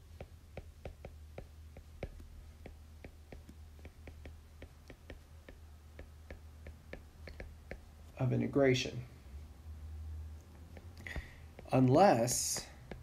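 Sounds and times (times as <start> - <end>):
stylus tapping on screen: 0.0 - 8.2, 10.6 - 13.0
faint low hum: 0.0 - 13.0.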